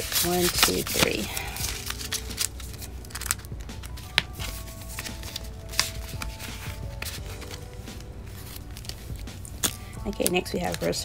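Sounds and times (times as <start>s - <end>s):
banknotes rustling and snapping: 0.0s - 11.0s
soft background music: 0.0s - 11.0s.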